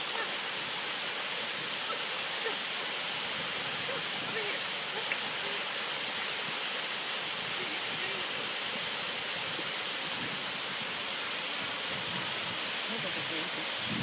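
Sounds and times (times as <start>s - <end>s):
falling water rushing: 0.0s - 14.0s.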